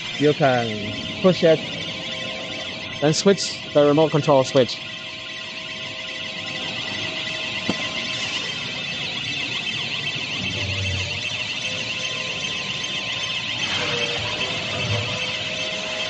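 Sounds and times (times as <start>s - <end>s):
high warbling warning alarm: 0.0s - 16.0s.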